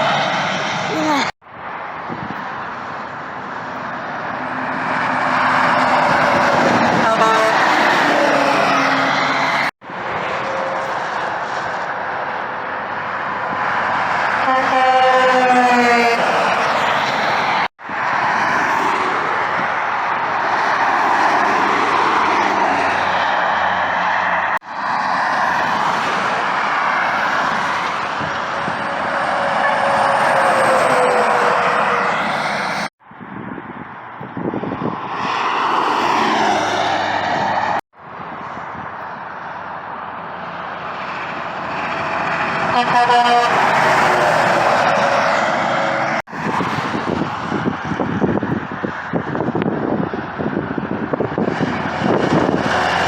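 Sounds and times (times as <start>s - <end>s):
highway traffic passing: 0.0s - 53.0s
rumbling road noise: 0.0s - 53.0s
vehicle passing by: 2.0s - 32.9s, 34.4s - 37.8s, 40.3s - 53.0s.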